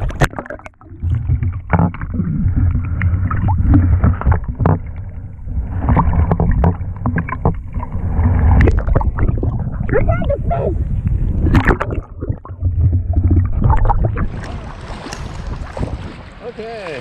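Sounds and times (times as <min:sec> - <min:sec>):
muffled underwater water sloshing: 0:00.0 - 0:17.0.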